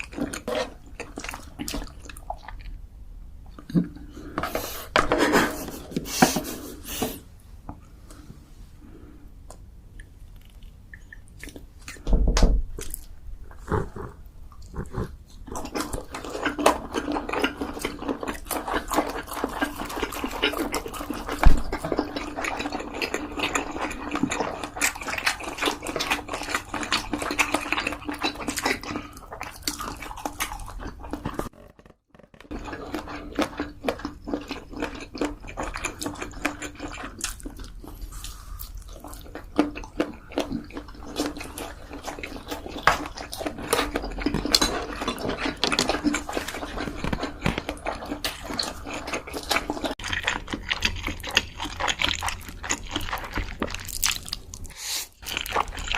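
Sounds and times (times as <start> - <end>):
wet chewing and mouth smacking: 0.0 - 4.1, 9.5 - 12.1, 12.7 - 55.9.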